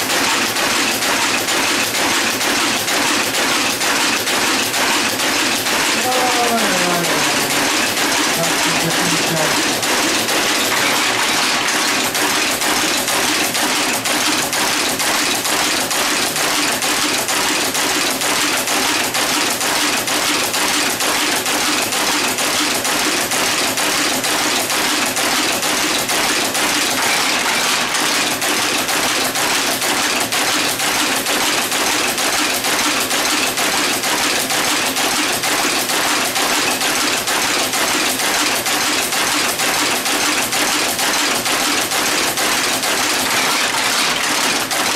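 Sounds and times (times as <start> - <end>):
type-casting machine clattering: 0.0 - 44.9.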